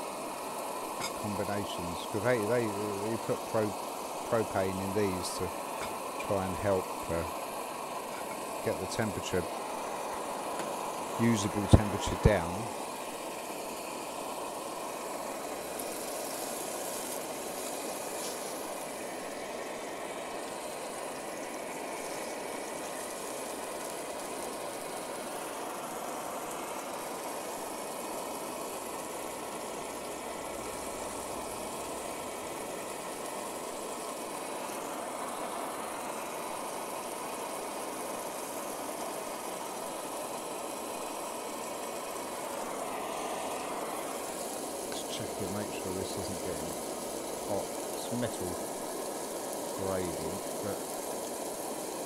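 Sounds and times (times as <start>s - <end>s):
camp stove burner roaring: 0.0s - 52.0s
steak sizzling in a pan: 0.0s - 52.0s.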